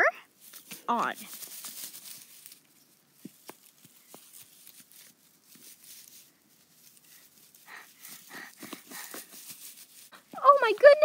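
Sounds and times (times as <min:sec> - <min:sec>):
dry grass and straw rustling: 0:00.3 - 0:11.0.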